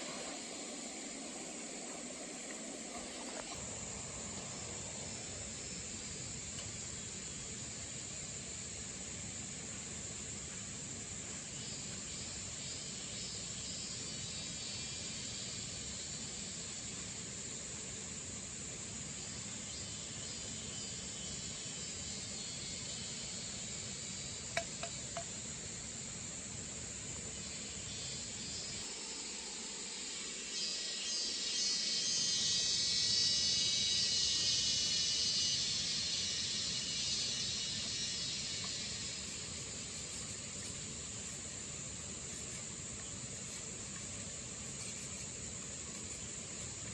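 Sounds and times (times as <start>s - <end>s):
insects chirring: 0.0s - 46.9s.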